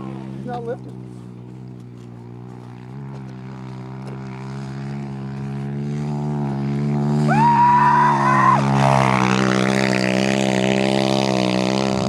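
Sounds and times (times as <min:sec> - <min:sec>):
pit bike engine revving high: 0:00.0 - 0:12.0.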